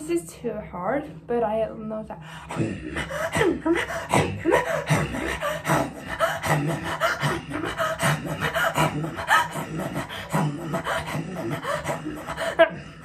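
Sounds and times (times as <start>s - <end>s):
woman breathing: 2.1s - 13.0s
woman throat singing: 2.4s - 13.0s.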